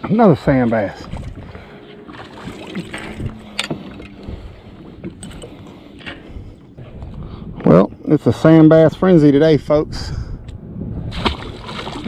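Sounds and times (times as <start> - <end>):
water: 0.0 - 9.8, 10.9 - 12.0
wind: 0.0 - 12.0.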